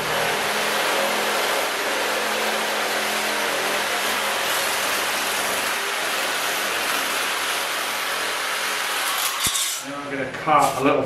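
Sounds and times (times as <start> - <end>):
electric metal shear cutting steel: 0.0 - 10.0.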